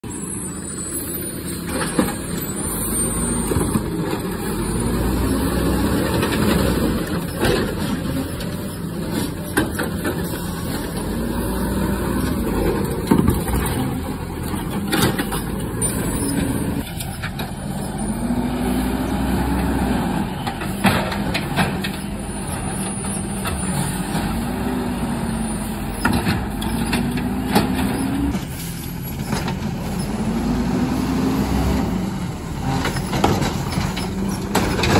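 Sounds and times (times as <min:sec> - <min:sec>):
garbage truck engine revving: 0:01.5 - 0:34.9.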